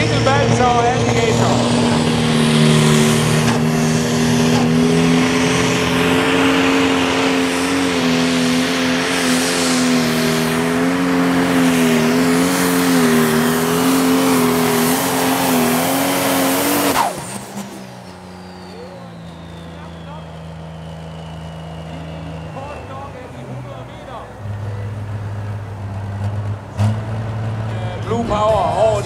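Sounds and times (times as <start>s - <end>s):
tractor diesel engine running flat out: 0.0s - 29.0s.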